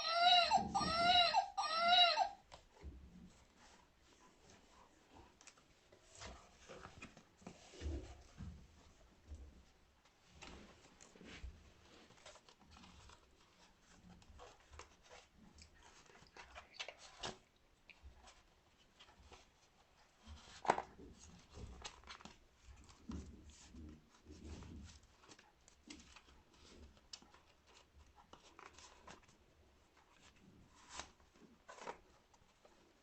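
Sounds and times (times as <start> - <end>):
light clicks and rustles: 2.5 - 33.0.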